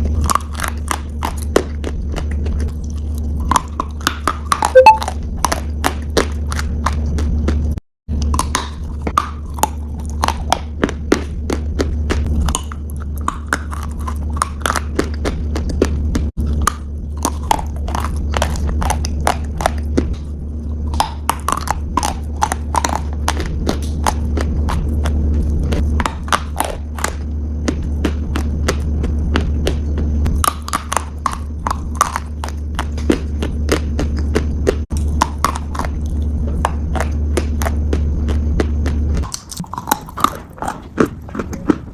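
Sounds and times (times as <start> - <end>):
low hum: 0.0 - 41.9
piglet crunching food: 0.0 - 41.9.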